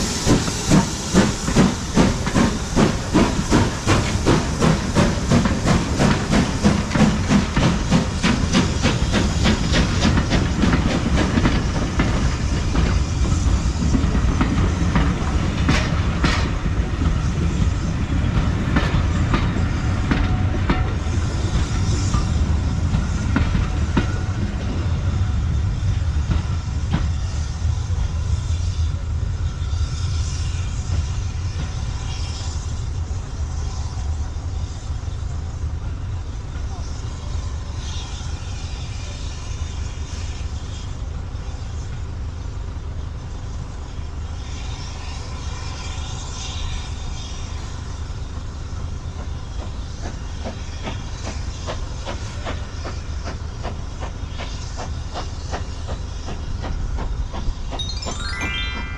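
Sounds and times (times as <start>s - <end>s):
train coaches rumbling: 0.0s - 58.9s.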